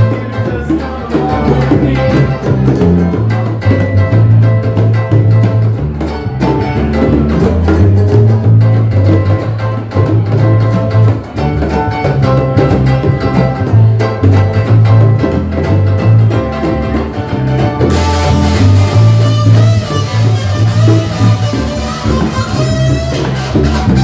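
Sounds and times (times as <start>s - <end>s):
guitar: 0.0s - 24.0s
live band playing: 0.0s - 24.0s
low bass line: 0.0s - 24.0s.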